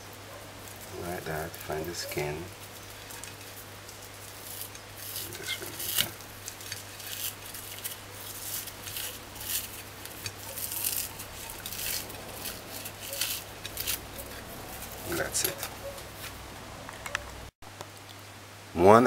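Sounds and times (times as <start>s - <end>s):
knife scraping a china plate: 0.8s - 16.4s.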